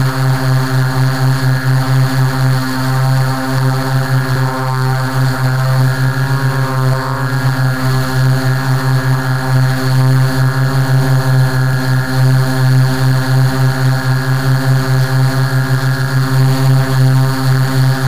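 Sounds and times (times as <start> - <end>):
quadcopter propellers humming: 0.0 - 18.0.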